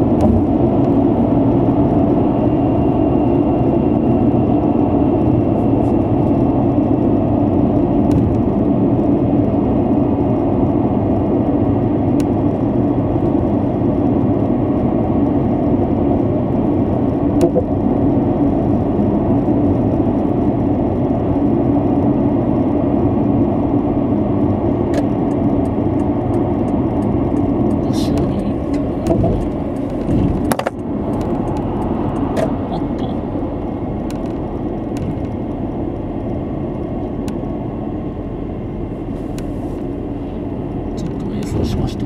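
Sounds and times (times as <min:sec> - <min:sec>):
car engine running: 0:00.0 - 0:42.0
tyres rumbling on asphalt: 0:00.0 - 0:42.0.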